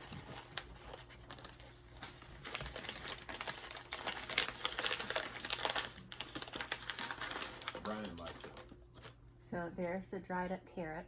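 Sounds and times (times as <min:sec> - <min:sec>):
plastic package crinkling: 0:00.0 - 0:09.2.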